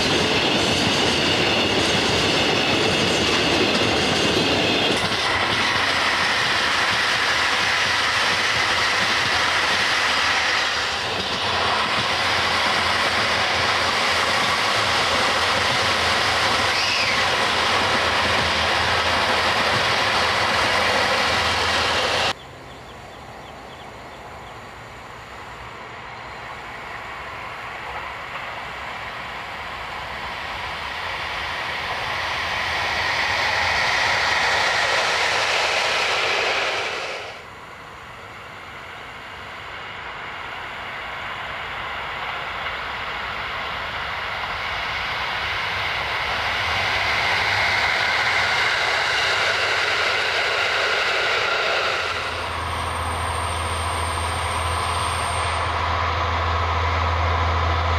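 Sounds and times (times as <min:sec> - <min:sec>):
train rumbling past: 0:00.0 - 0:57.9
train wheel noise: 0:00.0 - 0:57.9.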